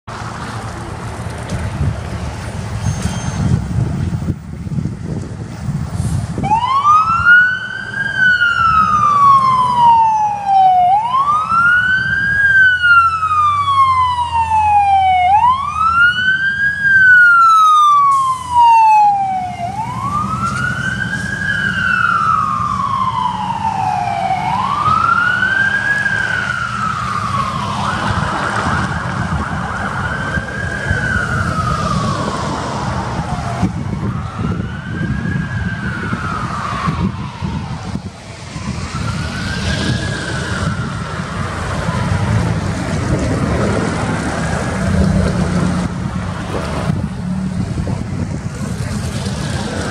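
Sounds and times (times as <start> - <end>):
truck engine rumble: 0.1 - 49.9
fire engine siren wailing: 6.3 - 49.9.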